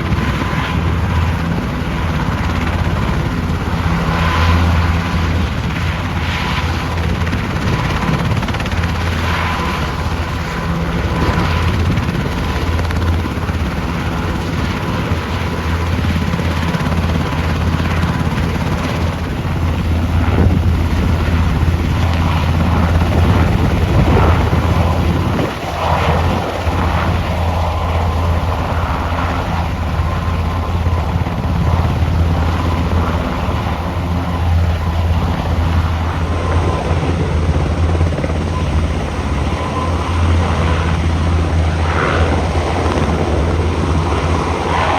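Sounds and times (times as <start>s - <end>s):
helicopter drone: 0.0s - 44.9s.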